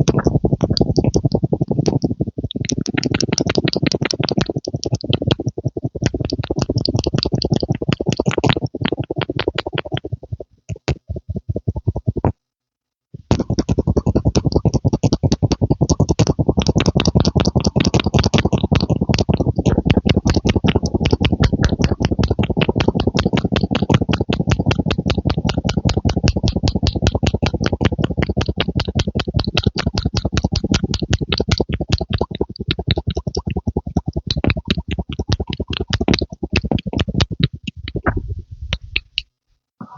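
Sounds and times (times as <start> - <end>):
rhythmic pumping: 0.0 - 12.3, 13.3 - 39.9.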